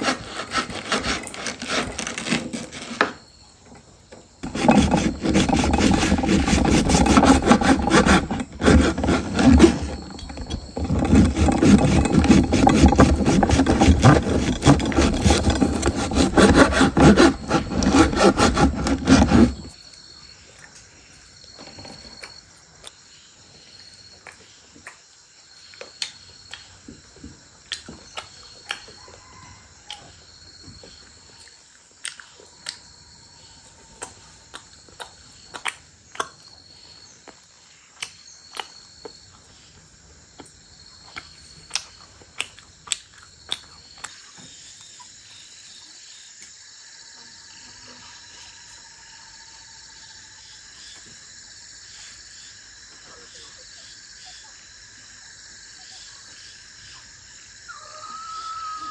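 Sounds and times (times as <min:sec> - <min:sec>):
insects chirping at night: 0:03.0 - 0:58.9.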